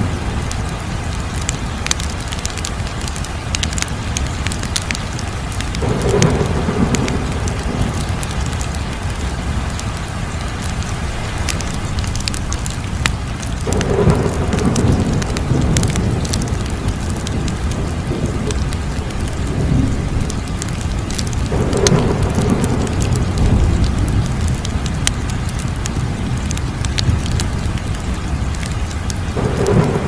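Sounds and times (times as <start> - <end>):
low fire rumble: 0.0 - 30.0
fire popping and snapping: 0.4 - 30.0.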